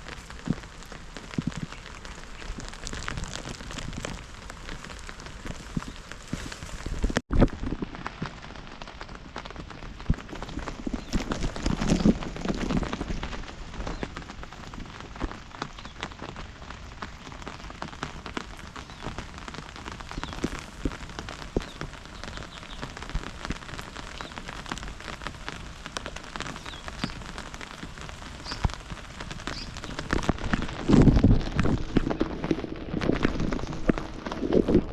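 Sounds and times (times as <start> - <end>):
rain drops tapping on surface: 0.0 - 34.9.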